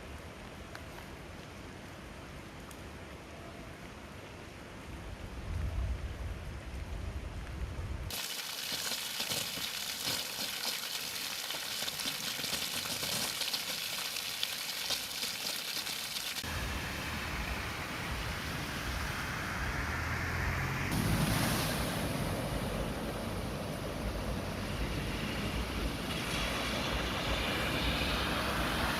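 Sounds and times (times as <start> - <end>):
heavy rain on hard surfaces: 0.0 - 19.3, 23.4 - 28.9.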